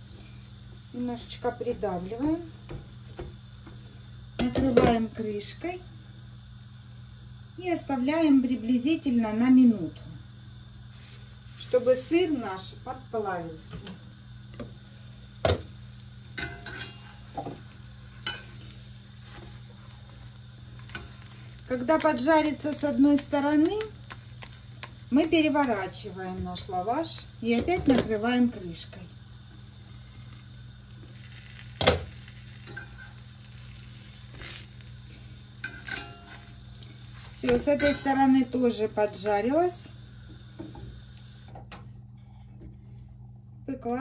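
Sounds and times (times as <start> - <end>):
faint sizzle of frying: 0.0 - 43.0
steady low hum: 0.0 - 44.0.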